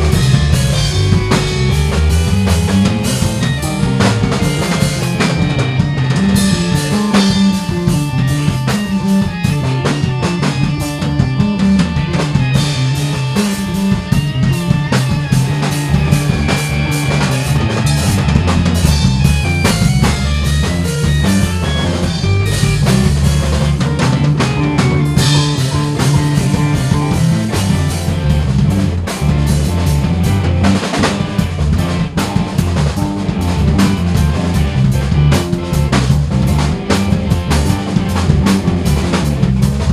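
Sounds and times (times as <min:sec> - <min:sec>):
drum kit beat: 0:00.0 - 0:39.9
electric bass: 0:00.0 - 0:39.9
electric guitar: 0:00.0 - 0:39.9
electric keyboards: 0:00.0 - 0:39.9.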